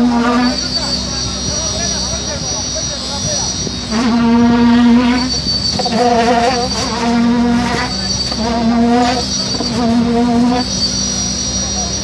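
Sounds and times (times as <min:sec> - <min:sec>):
concrete vibrator buzzing: 0:00.0 - 0:12.0.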